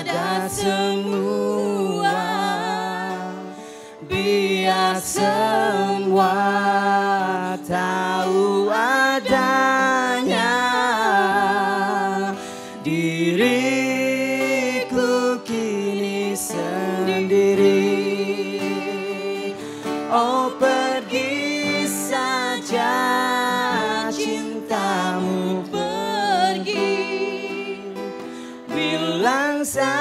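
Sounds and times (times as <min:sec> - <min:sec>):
acoustic guitar chords: 0:00.0 - 0:30.0
person singing: 0:00.0 - 0:30.0.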